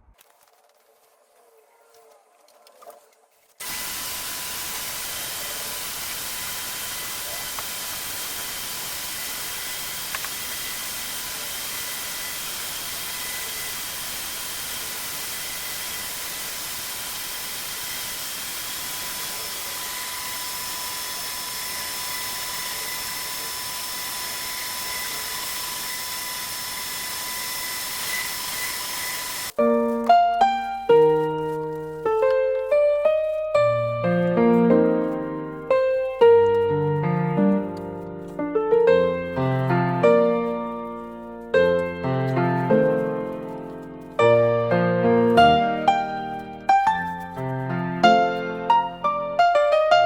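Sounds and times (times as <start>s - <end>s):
floor sander running: 3.6s - 49.9s.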